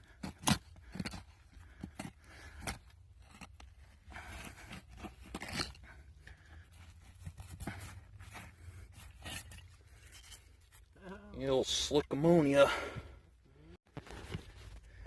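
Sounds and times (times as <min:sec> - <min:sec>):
crunching and scraping of soil: 0:00.0 - 0:13.0, 0:13.8 - 0:15.0.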